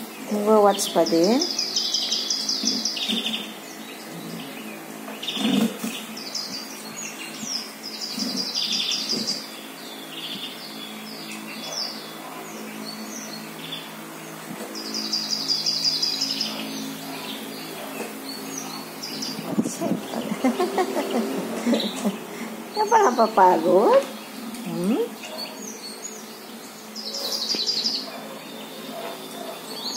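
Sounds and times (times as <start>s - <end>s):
songbirds chirping and trilling: 0.0s - 29.9s.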